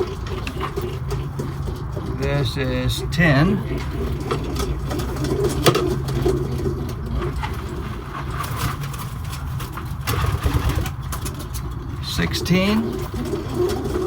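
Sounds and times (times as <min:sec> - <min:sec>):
pigeons cooing: 0:00.0 - 0:14.0
steady low hum: 0:00.0 - 0:14.0.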